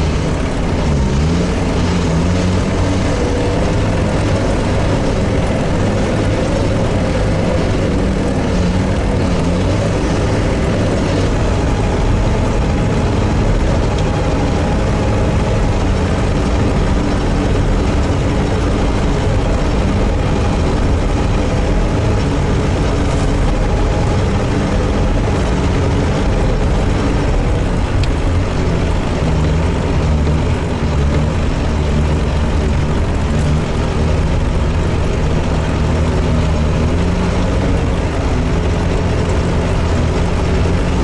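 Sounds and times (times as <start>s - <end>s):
vehicle engine droning: 0.0s - 41.0s.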